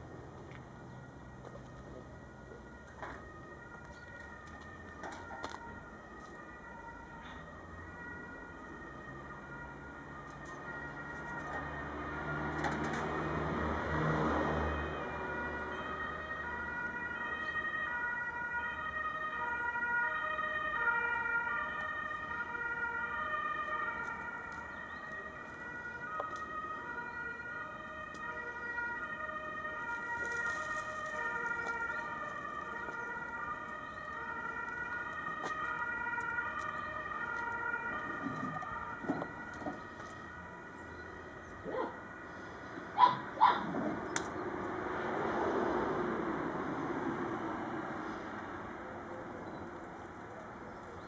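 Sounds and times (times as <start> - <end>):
two-tone siren: 0.6 - 43.4.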